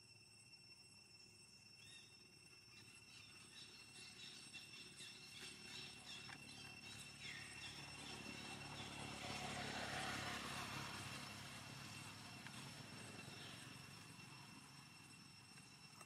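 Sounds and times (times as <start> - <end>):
insect drone: 0.0 - 16.0
short insect chirps: 0.0 - 16.0.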